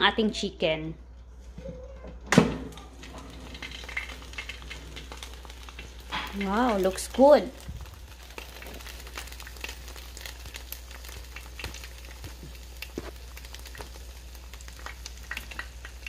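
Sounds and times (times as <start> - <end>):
hot fat crackling and popping: 2.3 - 16.0
chicken sizzling in air fryer: 2.4 - 16.0.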